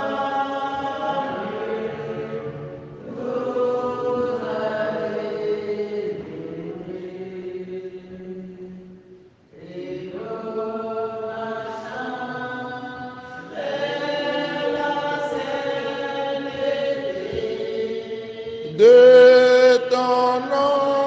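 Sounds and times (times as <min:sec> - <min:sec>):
voices singing slow chant: 0:00.0 - 0:21.0.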